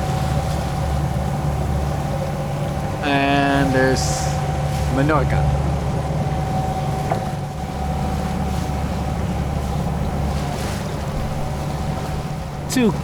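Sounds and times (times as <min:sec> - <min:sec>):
steady low drone: 0:00.0 - 0:12.8
wind and water rushing past hull: 0:00.0 - 0:13.0.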